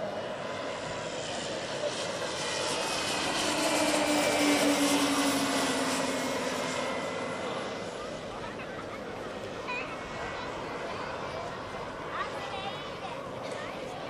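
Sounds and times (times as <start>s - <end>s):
model airplanes flying past: 0.0s - 14.0s.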